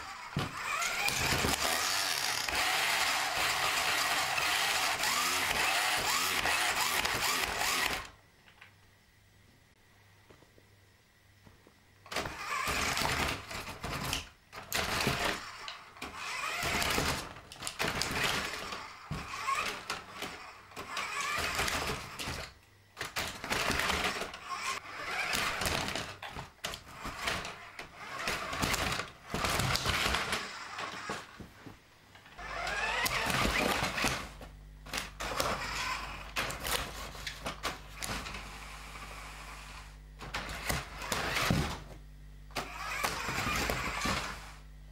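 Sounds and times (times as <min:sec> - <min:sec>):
toy truck electric motor whirring: 0:00.0 - 0:08.2, 0:12.1 - 0:31.4, 0:32.3 - 0:41.8, 0:42.5 - 0:44.6.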